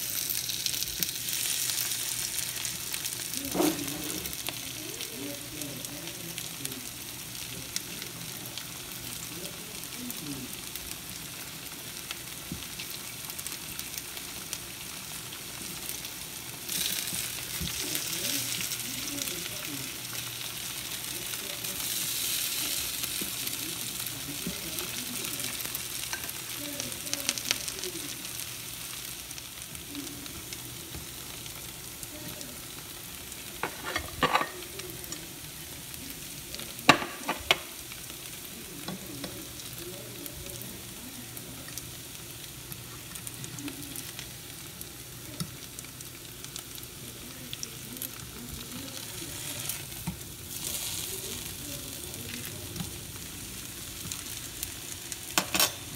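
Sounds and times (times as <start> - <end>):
potato patties sizzling in oil: 0.0 - 55.9.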